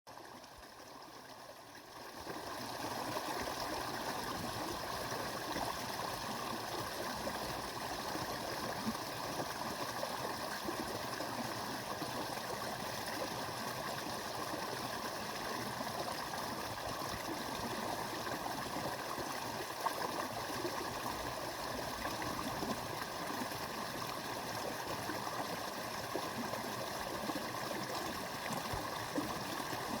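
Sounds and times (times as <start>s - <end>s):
brook babbling: 0.1s - 30.0s.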